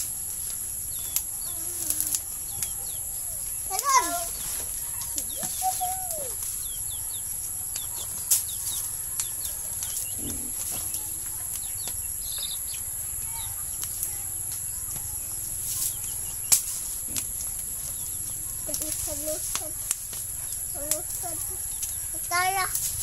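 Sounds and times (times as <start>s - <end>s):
birds chirping: 0.0s - 23.0s
steady high hiss: 0.0s - 23.0s.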